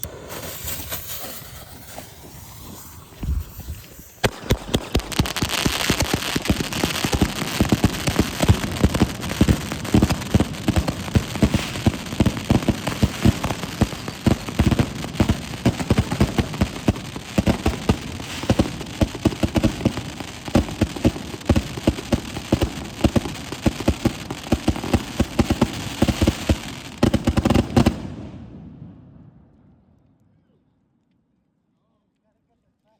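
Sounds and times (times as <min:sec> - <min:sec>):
firework fuse hissing: 0:00.0 - 0:27.8
firework barrage of cracks and pops: 0:00.0 - 0:30.3.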